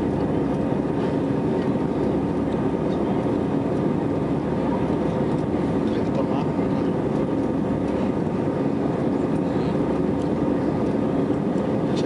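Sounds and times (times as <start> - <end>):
jet engine roar in cabin: 0.0 - 12.0.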